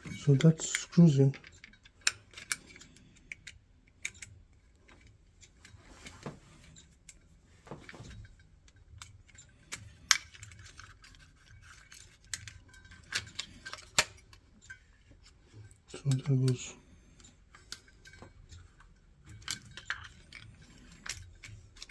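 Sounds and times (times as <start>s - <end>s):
clicks and scrapes of parts: 0.0s - 21.9s.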